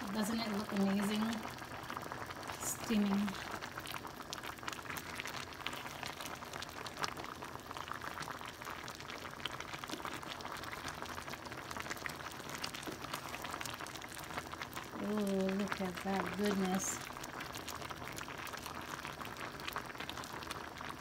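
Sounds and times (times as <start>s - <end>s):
soup bubbling in a pan: 0.0s - 21.0s.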